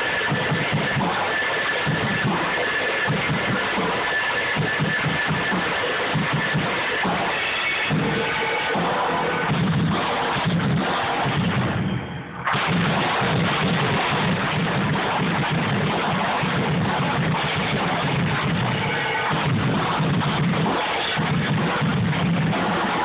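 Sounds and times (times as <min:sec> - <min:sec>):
drums playing loudly: 0:00.0 - 0:23.0.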